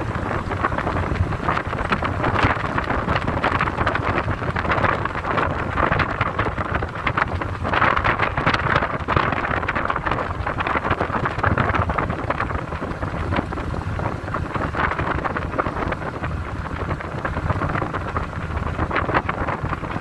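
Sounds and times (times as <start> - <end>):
car rumbling on rough road: 0.0 - 20.0
gravel crackling under wheels: 0.0 - 20.0.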